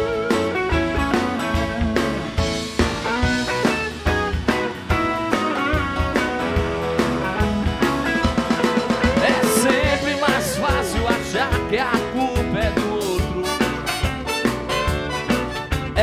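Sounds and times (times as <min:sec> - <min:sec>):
drum kit beat: 0:00.0 - 0:16.0
electric guitar: 0:00.0 - 0:16.0.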